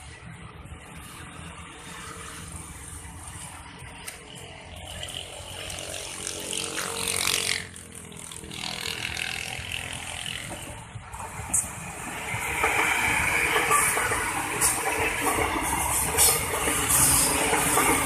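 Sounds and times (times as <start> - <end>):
electric train running on tracks: 0.0 - 18.0.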